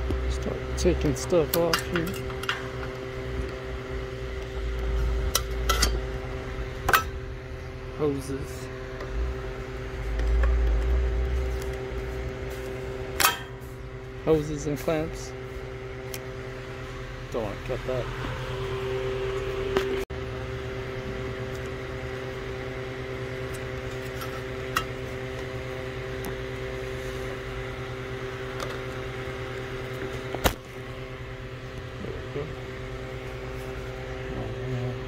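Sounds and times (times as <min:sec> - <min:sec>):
motor humming: 0:00.0 - 0:35.0.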